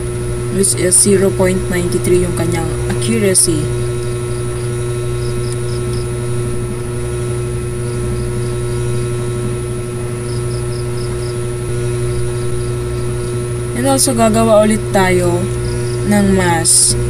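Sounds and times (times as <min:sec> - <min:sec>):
low electrical hum: 0:00.0 - 0:17.0
faint evenly spaced ticks: 0:00.6 - 0:06.4, 0:07.7 - 0:09.3, 0:10.0 - 0:17.0.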